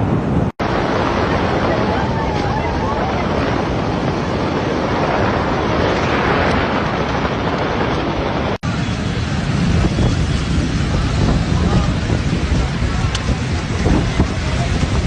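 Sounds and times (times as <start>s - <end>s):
heavy rain pouring: 0.0s - 15.0s
wind buffeting microphone: 0.0s - 15.0s.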